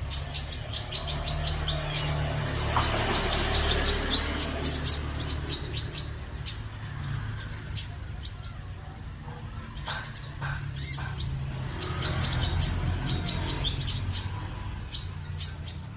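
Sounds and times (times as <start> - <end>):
bird chirping song: 0.0 - 15.9.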